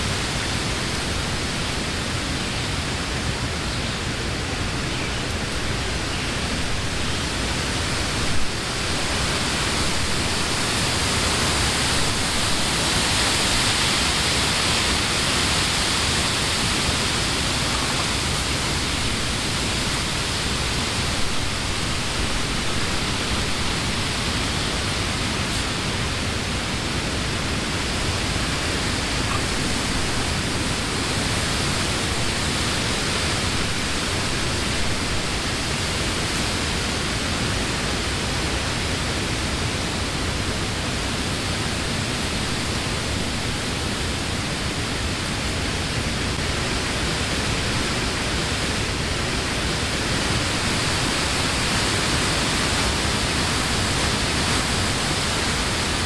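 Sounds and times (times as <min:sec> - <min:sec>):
wind through tree leaves: 0:00.0 - 0:56.0.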